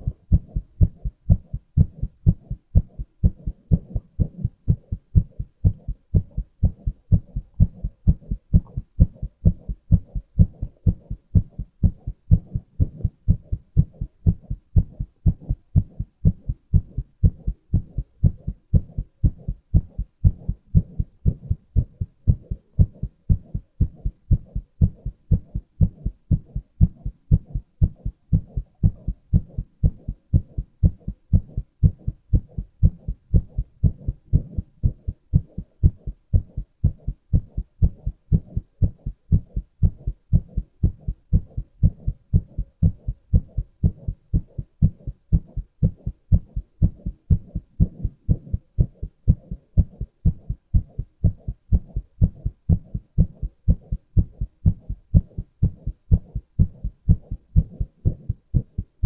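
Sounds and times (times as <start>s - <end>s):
heartbeat thuds: 0.0s - 59.0s.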